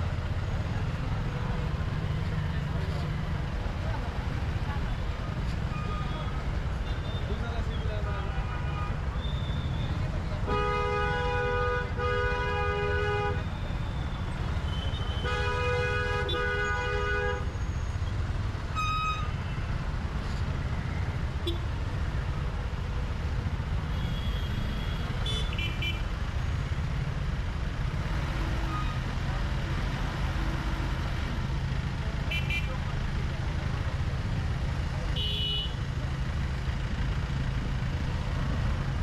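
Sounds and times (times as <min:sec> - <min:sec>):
road travel rumble: 0:00.0 - 0:39.0.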